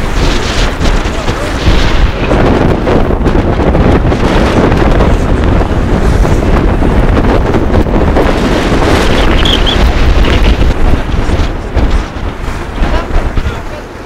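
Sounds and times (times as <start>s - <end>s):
choppy sea: 0.0s - 14.0s
wind buffeting microphone: 0.0s - 14.0s.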